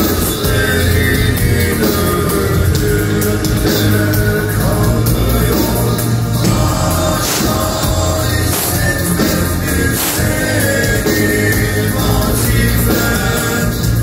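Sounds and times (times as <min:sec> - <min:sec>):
live rock music: 0:00.0 - 0:14.0
person singing: 0:00.0 - 0:14.0.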